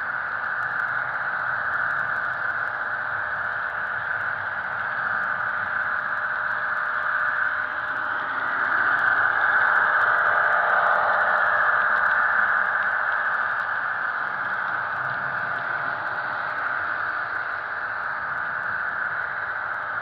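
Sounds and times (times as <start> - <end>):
model train engine drone: 0.0 - 20.0.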